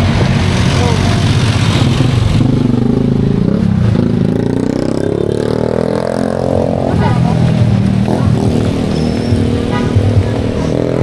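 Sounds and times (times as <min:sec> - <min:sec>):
street traffic: 0:00.0 - 0:11.0
vehicle engine accelerating: 0:00.0 - 0:11.0.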